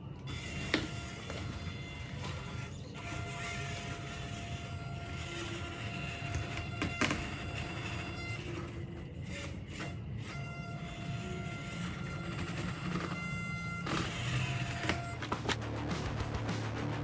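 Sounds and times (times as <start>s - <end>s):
rc truck motor whine: 0.0s - 15.7s.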